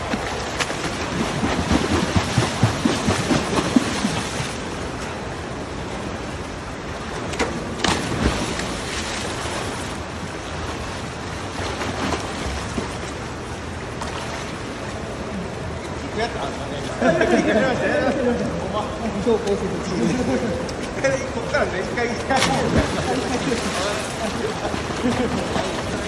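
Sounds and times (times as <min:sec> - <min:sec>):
pool water splashing and churning: 0:00.0 - 0:26.0.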